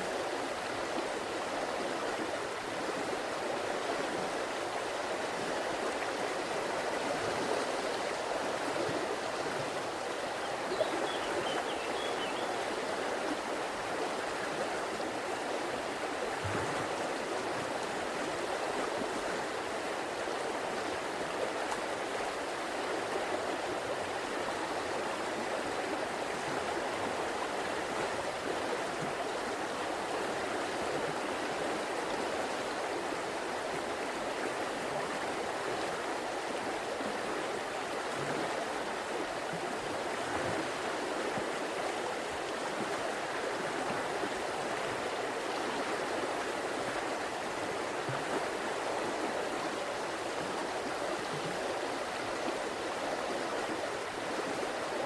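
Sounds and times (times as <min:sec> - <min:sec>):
river water running over rocks: 0:00.0 - 0:55.0.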